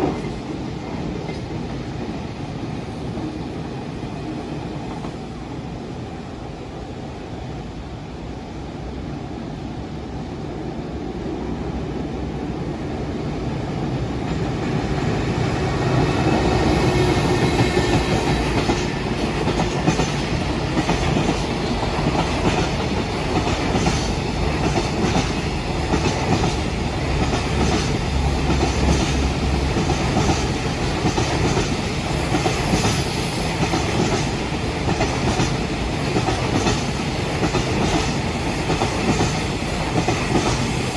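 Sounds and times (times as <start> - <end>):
freight train rumble: 0.0 - 40.9.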